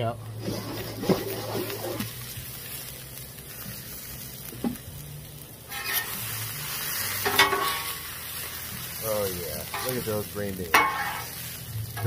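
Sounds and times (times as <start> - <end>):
water and steam sizzling on griddle: 0.0 - 12.0.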